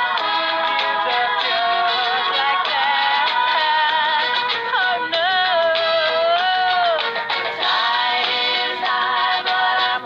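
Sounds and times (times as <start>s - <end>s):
song with sung melody: 0.0s - 10.0s.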